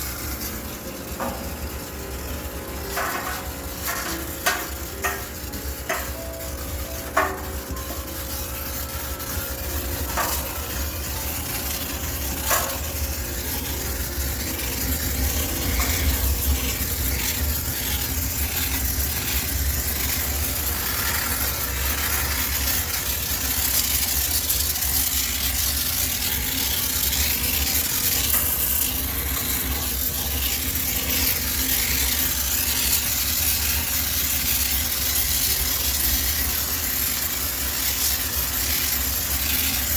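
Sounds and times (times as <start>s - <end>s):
steam cleaner hissing: 3.0s - 39.9s.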